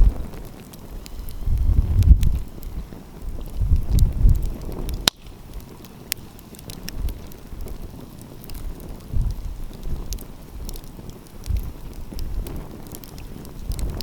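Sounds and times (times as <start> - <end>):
wind gusts on microphone: 0.0 - 5.8, 6.6 - 14.0
wood fire crackling: 0.0 - 14.0.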